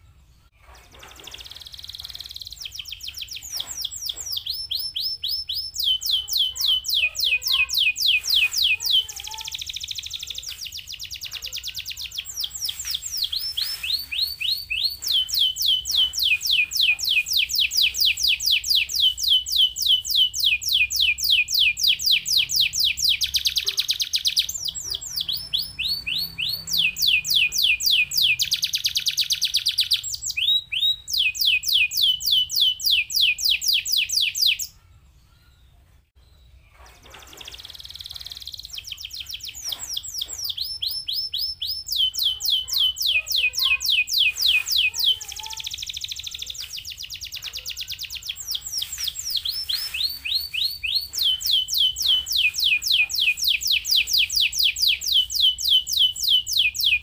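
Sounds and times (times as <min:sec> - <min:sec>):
canary singing: 0:00.0 - 0:57.0.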